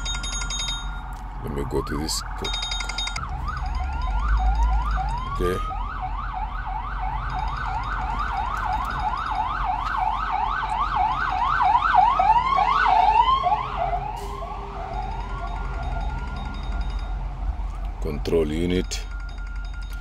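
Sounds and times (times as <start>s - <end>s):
emergency vehicle siren: 1.2s - 20.0s.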